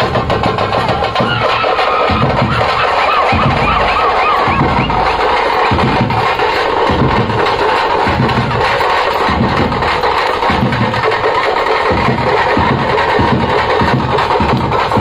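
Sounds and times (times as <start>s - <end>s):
loud music with heavy drum beat: 0.0s - 15.0s.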